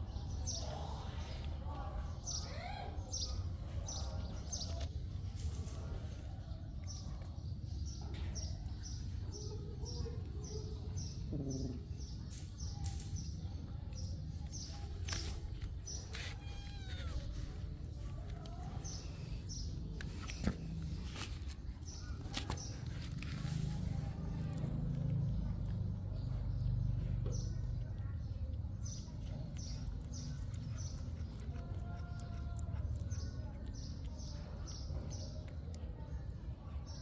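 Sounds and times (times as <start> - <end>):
small bird chirping: 2.2 - 37.0.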